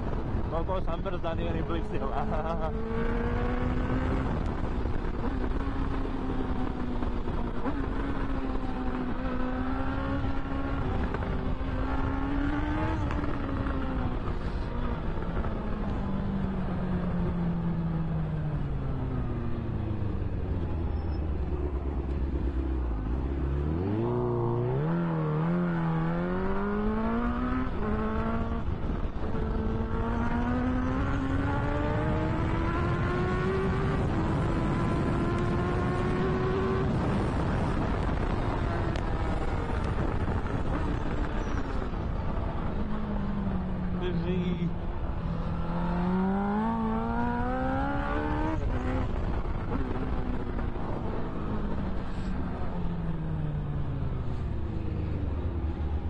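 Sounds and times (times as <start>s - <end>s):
motorcycle engine revving: 1.0s - 56.0s.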